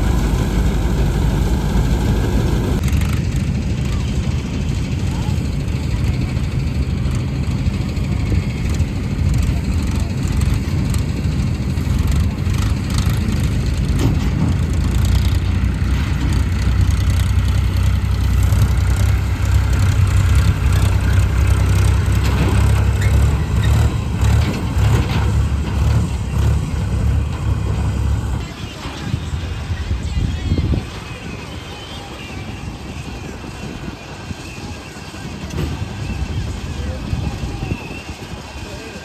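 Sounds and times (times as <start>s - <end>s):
combine harvester engine rumble: 0.0s - 39.0s.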